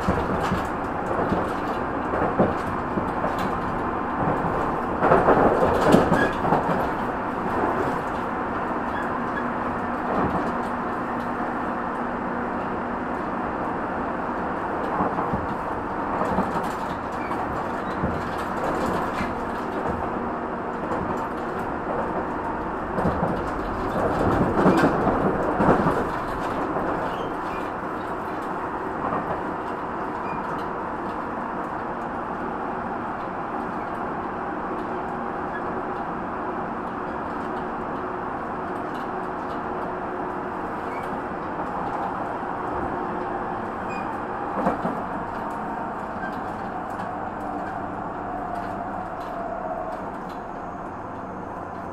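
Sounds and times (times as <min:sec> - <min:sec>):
train clattering: 0:00.0 - 0:51.9
train wheels rumbling on rail: 0:00.0 - 0:51.9.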